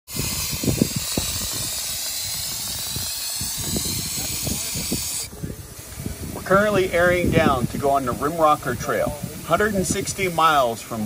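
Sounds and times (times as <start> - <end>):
air hissing out of tyre: 0.1 - 11.0.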